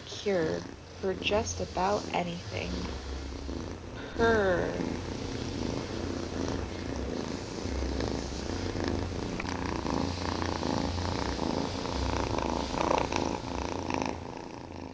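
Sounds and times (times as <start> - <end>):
cat purring: 0.0 - 14.9.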